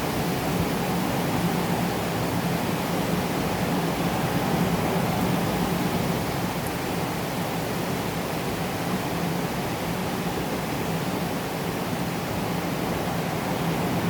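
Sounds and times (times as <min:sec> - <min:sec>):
moderate rain falling: 0:00.0 - 0:14.0.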